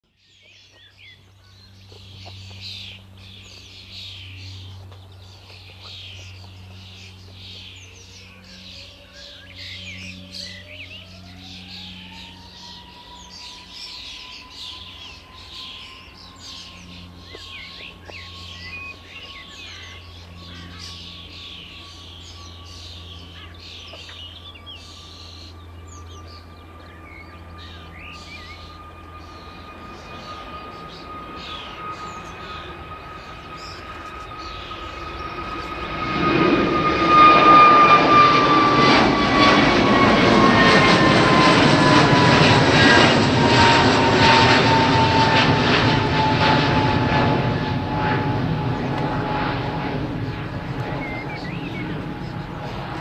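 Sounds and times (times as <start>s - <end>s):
birds chirping: 0.0s - 53.0s
distant jet engines whining: 0.1s - 53.0s.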